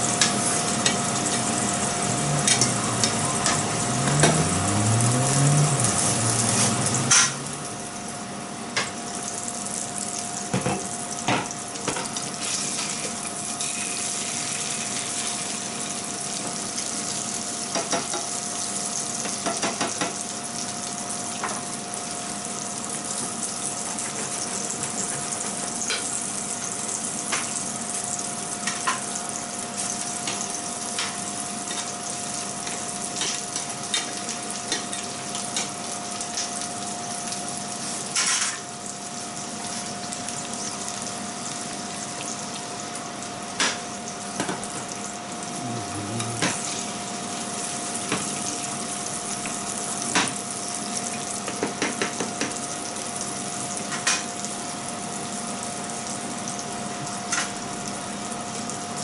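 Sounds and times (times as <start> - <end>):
food sizzling in pans: 0.0 - 45.4, 46.2 - 59.0.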